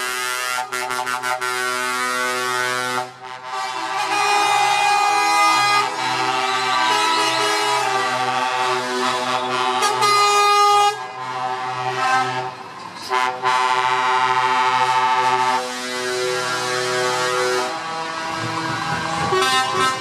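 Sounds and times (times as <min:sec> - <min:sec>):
diesel truck engines passing: 0:00.0 - 0:20.0
truck air horns blasting: 0:00.0 - 0:20.0.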